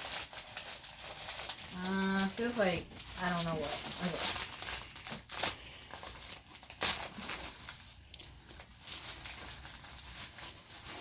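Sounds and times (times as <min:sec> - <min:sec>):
paper ripping: 0:00.0 - 0:11.0
wrapping paper crinkling: 0:00.0 - 0:11.0.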